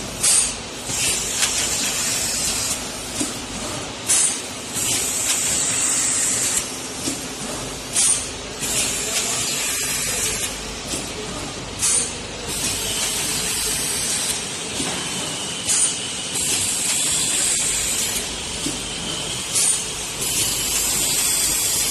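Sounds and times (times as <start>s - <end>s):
thermoforming machine running: 0.0s - 21.9s.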